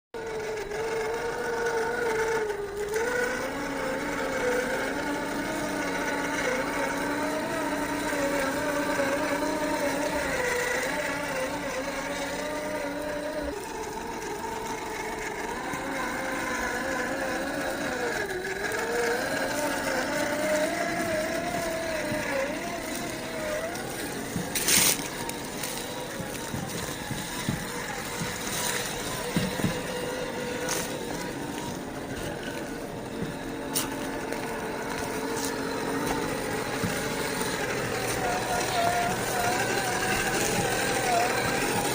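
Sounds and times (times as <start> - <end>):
electric motor whining: 0.1 - 41.9.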